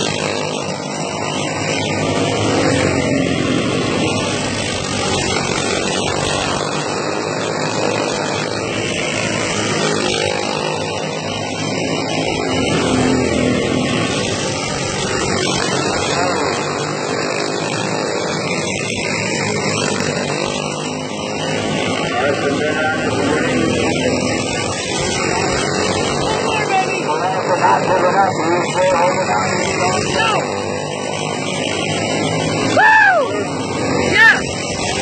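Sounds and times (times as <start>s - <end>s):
racing kart engines: 0.0s - 35.0s.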